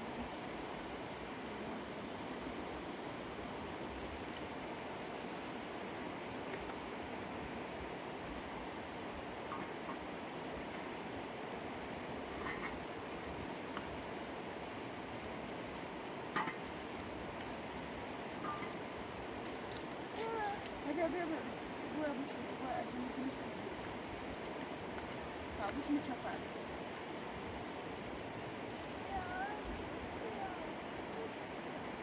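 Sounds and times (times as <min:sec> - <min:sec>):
background hiss: 0:00.0 - 0:32.0
cricket chirping: 0:00.0 - 0:32.0.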